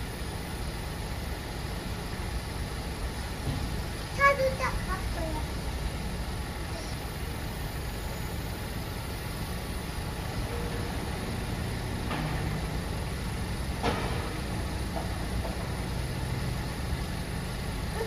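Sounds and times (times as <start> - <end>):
truck engine rumbling at low revs: 0.0 - 18.0.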